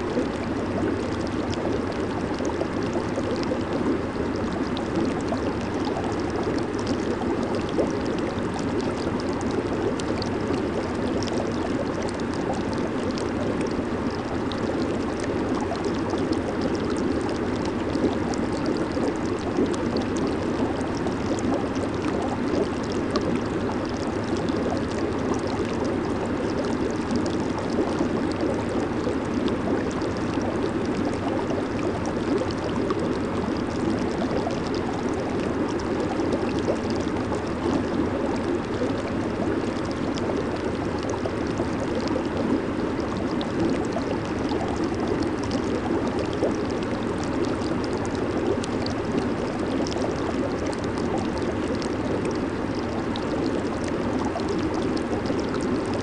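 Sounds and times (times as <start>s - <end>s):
bubbles bursting: 0.0s - 56.0s
jacuzzi water churning and bubbling: 0.0s - 56.0s.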